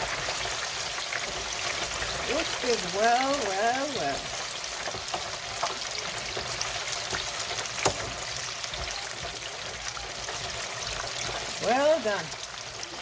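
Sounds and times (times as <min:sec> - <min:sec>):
wings frying in hot oil: 0:00.0 - 0:13.0.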